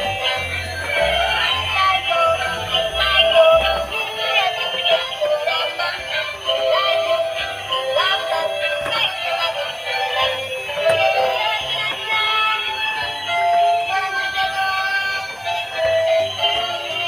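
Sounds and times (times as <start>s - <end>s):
toy playing electronic song: 0.0s - 17.0s.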